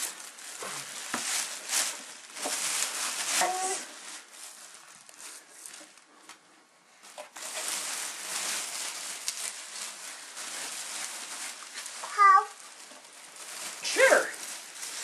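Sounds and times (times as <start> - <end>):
plastic bag rustling: 0.0 - 6.2, 7.0 - 15.0.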